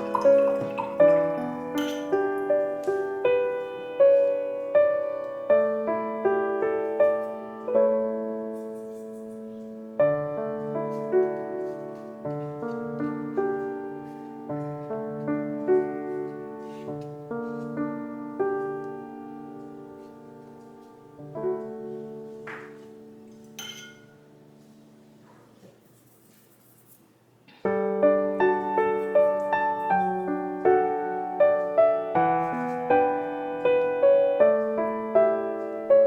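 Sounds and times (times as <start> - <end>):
gentle piano music: 0.0 - 25.4, 27.5 - 36.0.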